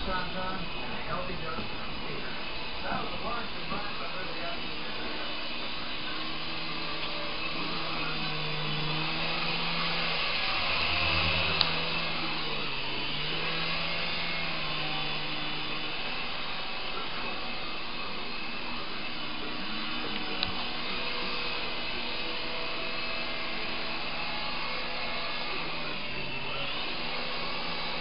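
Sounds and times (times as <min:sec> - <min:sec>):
toy helicopter rotors whirring: 0:00.0 - 0:28.0.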